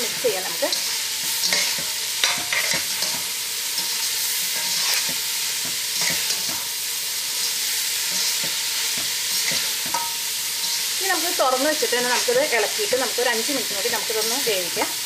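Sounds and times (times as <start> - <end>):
food sizzling in butter: 0.0 - 15.0.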